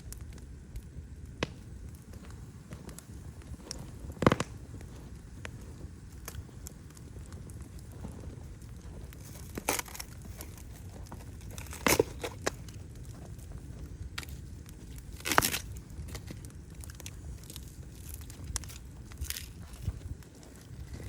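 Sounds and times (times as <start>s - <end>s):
low steady rumble: 0.0s - 21.0s
sharp fire pops: 0.0s - 21.0s
wood fire crackling: 0.0s - 21.0s.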